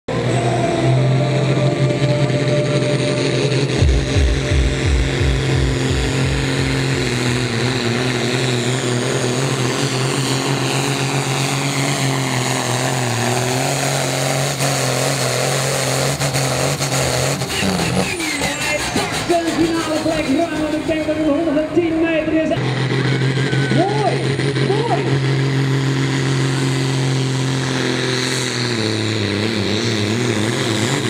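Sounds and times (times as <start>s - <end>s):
heavy low pulsing: 0.1s - 27.9s
tractor engine running under full load: 0.1s - 31.0s.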